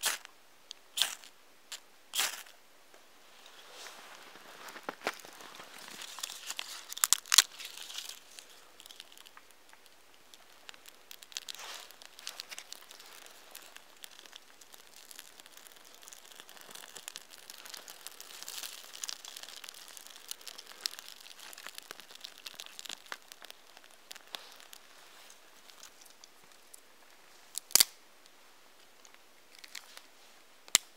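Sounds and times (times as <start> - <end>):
fire crackling and hissing: 0.0 - 30.9
tinder crinkling and rustling: 2.2 - 30.9.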